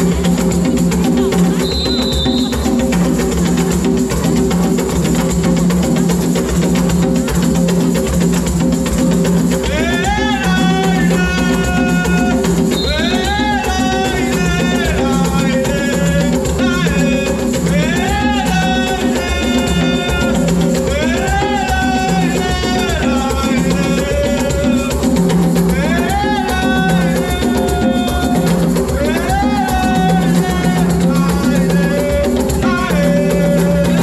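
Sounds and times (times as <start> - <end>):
drums: 0.0 - 34.0.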